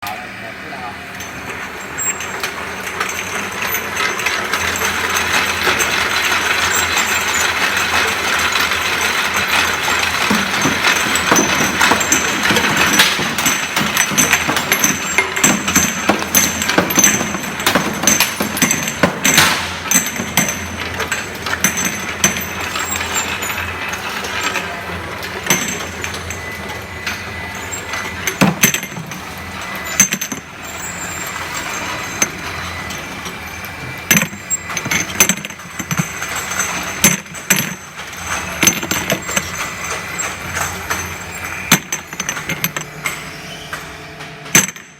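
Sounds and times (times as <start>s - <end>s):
labeling machine running: 0.0s - 44.9s
bottles clicking and clattering: 1.2s - 42.9s.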